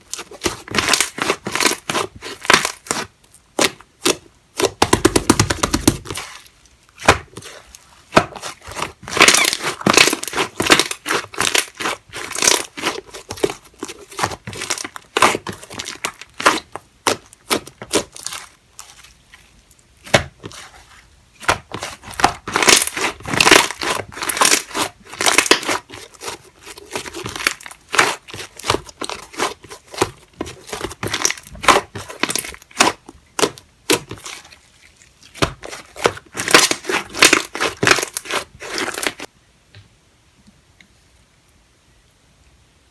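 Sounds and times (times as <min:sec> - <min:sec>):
hands squishing slime: 0:00.1 - 0:39.3.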